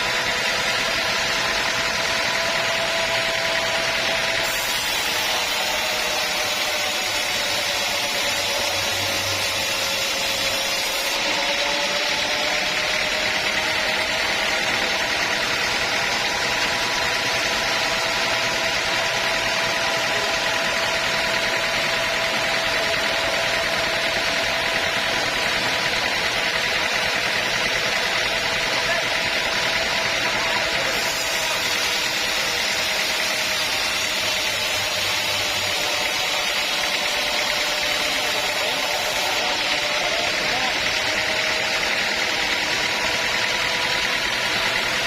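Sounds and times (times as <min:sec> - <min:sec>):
saw mechanical whine: 0:00.0 - 0:45.0.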